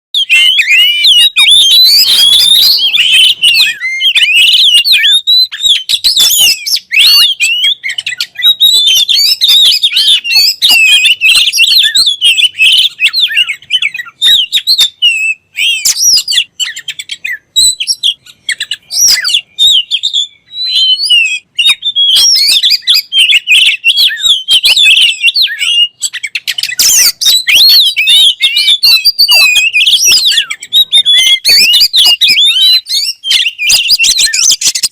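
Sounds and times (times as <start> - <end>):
bird singing chirps and whistles: 0.2 - 34.9.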